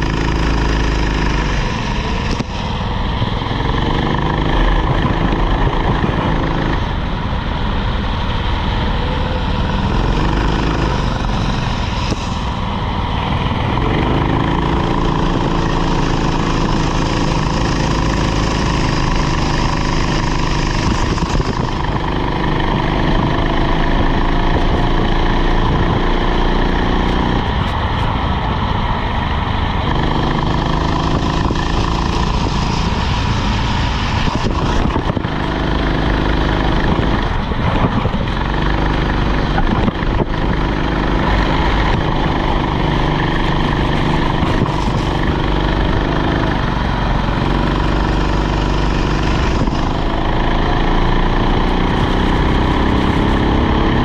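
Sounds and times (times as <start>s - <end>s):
kart engine running hard: 0.0s - 54.0s.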